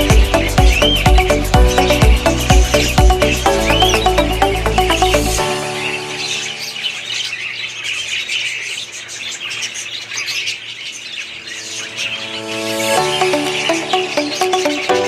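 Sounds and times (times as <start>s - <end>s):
budgerigars chattering: 0.0s - 15.0s.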